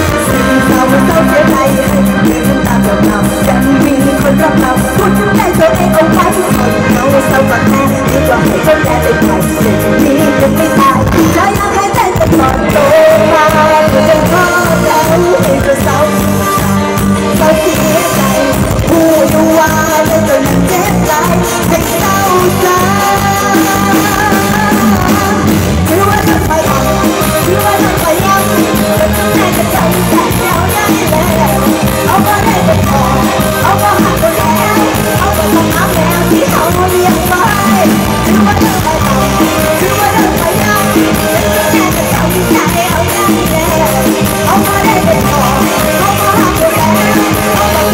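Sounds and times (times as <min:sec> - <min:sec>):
live band music with steady beat: 0:00.0 - 0:47.9.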